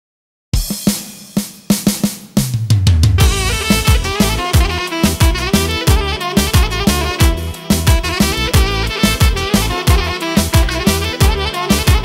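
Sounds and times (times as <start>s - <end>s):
drum hits: 0.6s - 12.0s.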